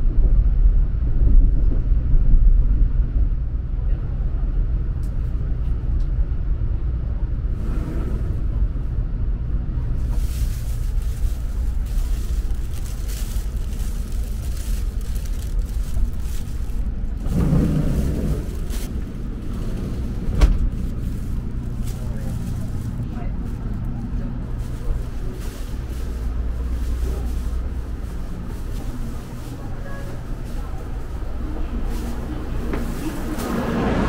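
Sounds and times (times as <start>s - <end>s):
train rumble from inside: 0.0s - 34.0s.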